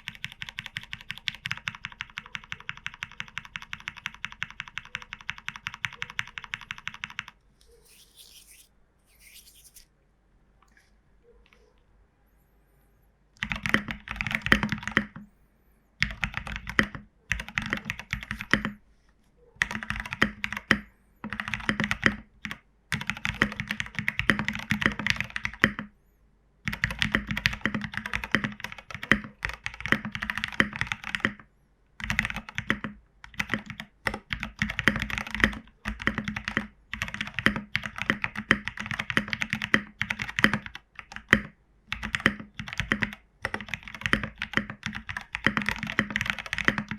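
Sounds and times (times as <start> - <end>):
mechanical keyboard typing: 0.0 - 8.3, 13.4 - 15.2, 16.0 - 18.8, 19.6 - 25.8, 26.7 - 31.4, 32.0 - 46.9.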